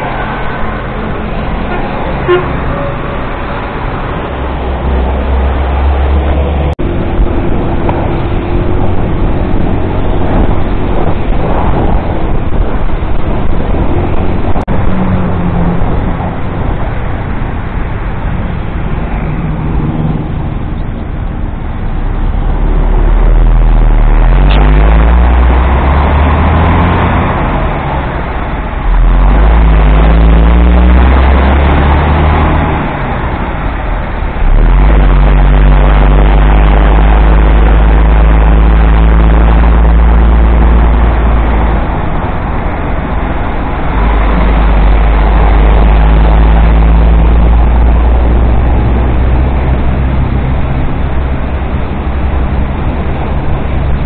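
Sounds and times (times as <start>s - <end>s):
heavy low rumble: 0.0s - 54.0s
road noise: 0.0s - 54.0s.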